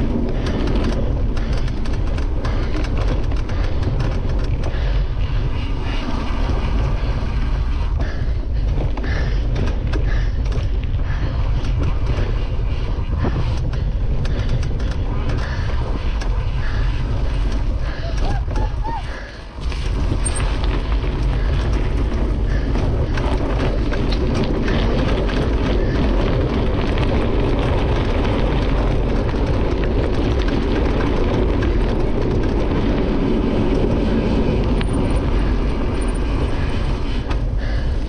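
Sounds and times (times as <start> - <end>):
bike rattles and clicks: 0.0 - 38.0
knobby tyres rushing on gravel: 0.0 - 38.0.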